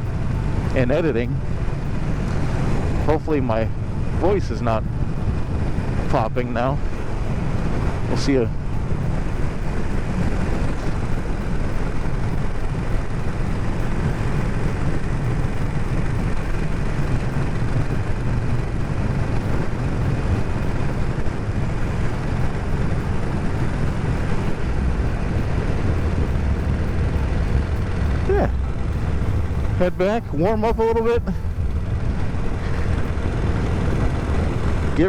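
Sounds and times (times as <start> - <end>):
motorcycle engine running: 0.0 - 35.0
wind rush: 0.0 - 35.0.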